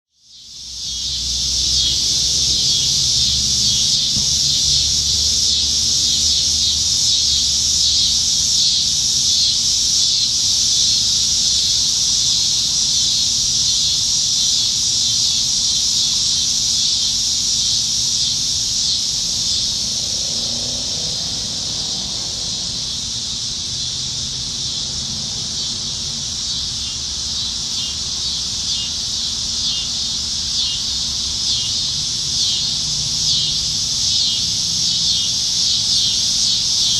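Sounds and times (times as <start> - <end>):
cicadas buzzing: 0.1 - 36.9.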